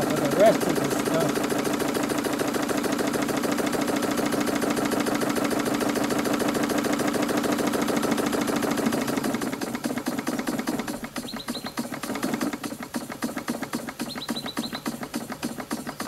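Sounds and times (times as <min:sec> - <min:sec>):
model steam engine running: 0:00.0 - 0:16.0.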